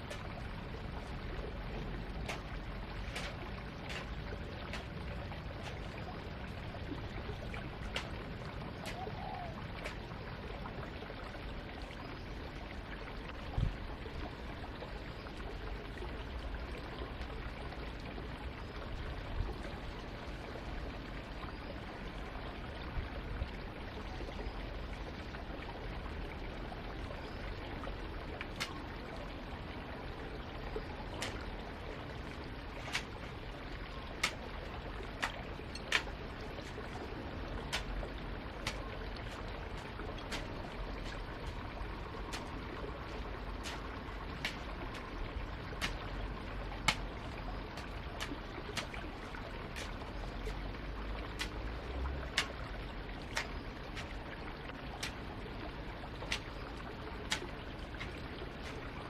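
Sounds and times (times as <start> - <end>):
trickling water: 0.0 - 59.0.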